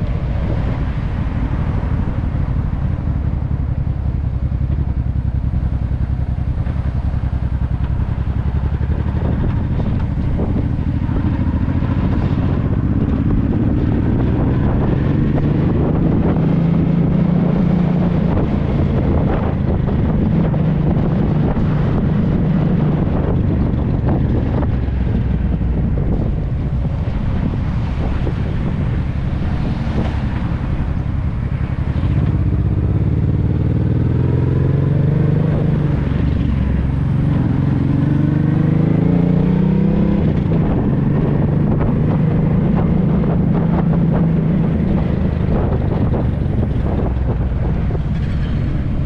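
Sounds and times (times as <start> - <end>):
motorcycle engine running: 0.0 - 49.0
wind on microphone: 0.0 - 49.0.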